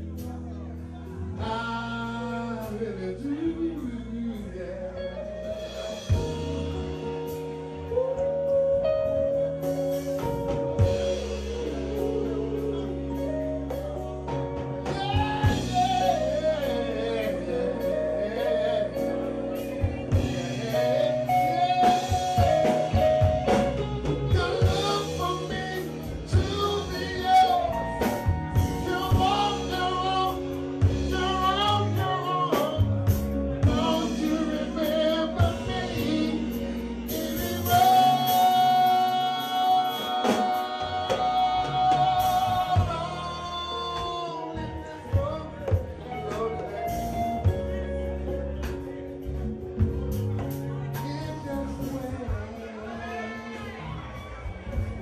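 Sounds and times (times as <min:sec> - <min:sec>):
electric bass: 0:00.0 - 0:55.0
man singing: 0:00.0 - 0:55.0
drum kit: 0:05.4 - 0:55.0.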